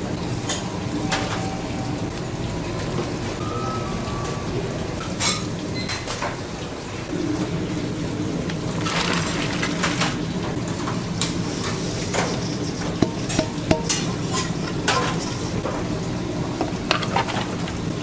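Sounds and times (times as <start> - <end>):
background hiss and hum: 0.0 - 18.0.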